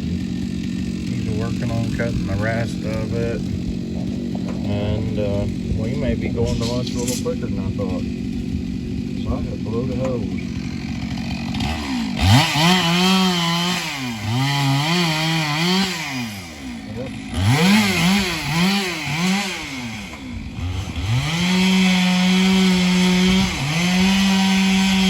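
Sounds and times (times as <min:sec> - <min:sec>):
chainsaw revving: 0:00.0 - 0:25.0.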